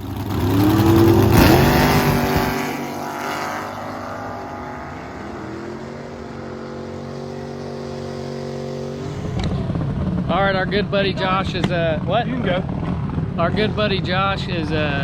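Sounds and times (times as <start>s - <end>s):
drag car engine at full throttle: 0.0s - 15.0s.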